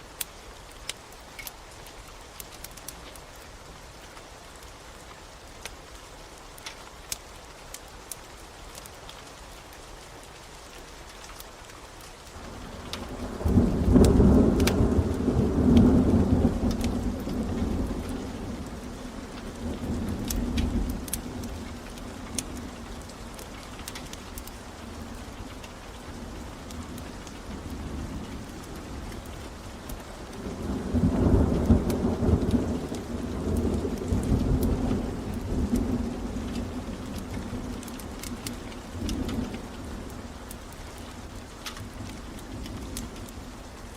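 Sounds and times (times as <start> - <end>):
steady rain: 0.0 - 43.9
wood fire crackling: 0.0 - 43.9.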